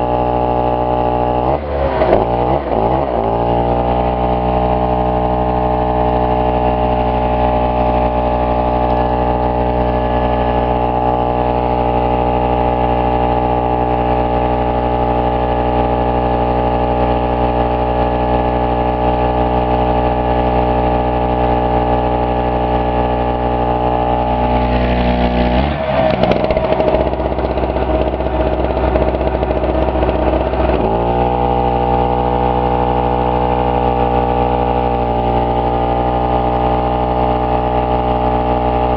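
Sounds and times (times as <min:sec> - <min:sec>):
air compressor motor: 0:00.0 - 0:38.9
generator engine running: 0:00.0 - 0:38.9.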